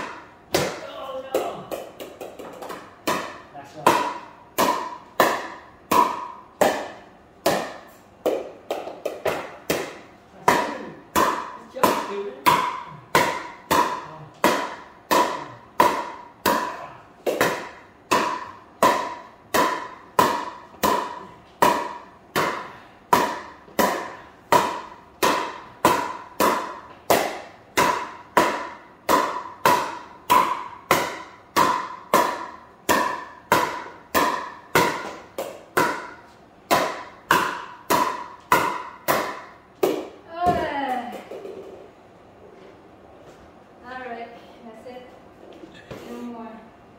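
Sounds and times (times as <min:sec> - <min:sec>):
paddle hitting pickleball: 0:00.0 - 0:41.9.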